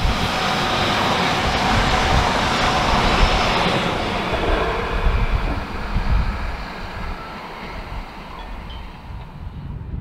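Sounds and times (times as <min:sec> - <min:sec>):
train wheels rushing on rails: 0:00.0 - 0:09.9
wind buffeting microphone: 0:00.0 - 0:10.0.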